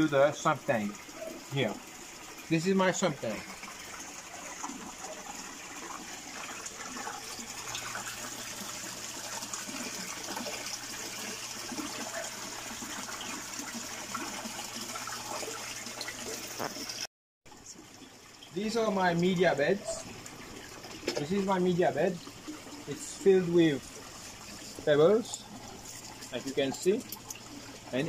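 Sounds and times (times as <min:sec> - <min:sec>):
water pouring into tank: 0:00.0 - 0:28.0.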